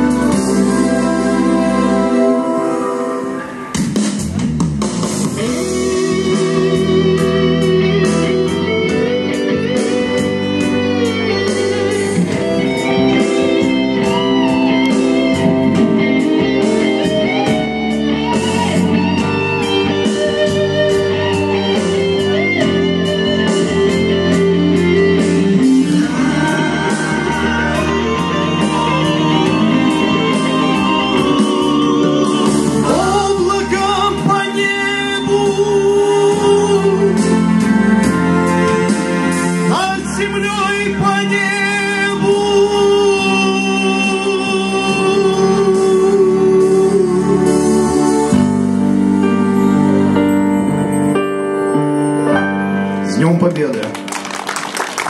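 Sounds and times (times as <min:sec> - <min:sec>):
guitar-led instrumental music: 0:00.0 - 0:55.0.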